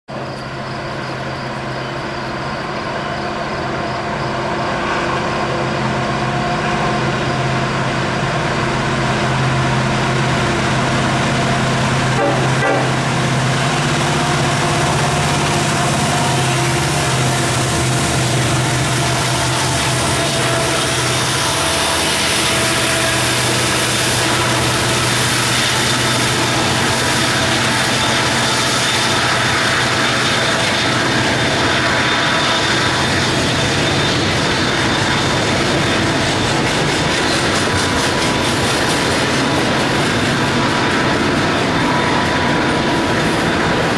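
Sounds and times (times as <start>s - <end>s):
diesel locomotives running under load: 0.1s - 43.9s
train wheel and rail noise: 0.1s - 43.9s.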